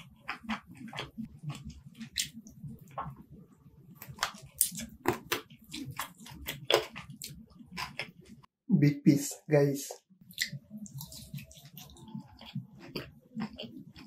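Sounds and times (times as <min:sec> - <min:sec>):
wet chewing and lip-smacking: 0:00.0 - 0:03.3, 0:03.9 - 0:08.5, 0:10.2 - 0:14.0.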